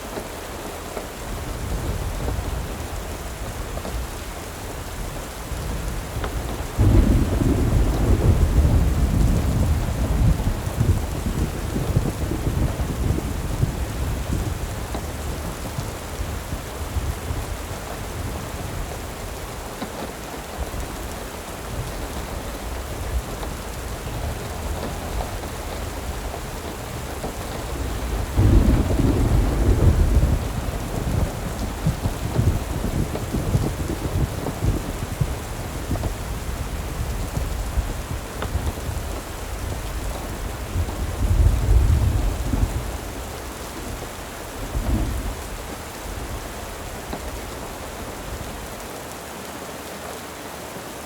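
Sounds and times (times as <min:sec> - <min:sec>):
steady rain: 0:00.0 - 0:51.0
rumbling thunder: 0:04.9 - 0:19.6, 0:20.6 - 0:47.8.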